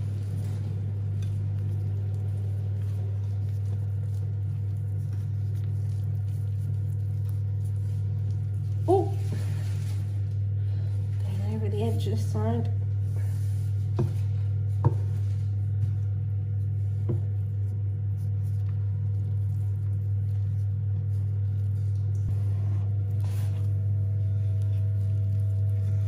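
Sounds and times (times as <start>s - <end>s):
steady low hum: 0.0s - 26.0s
utensil stirring dough: 0.0s - 26.0s.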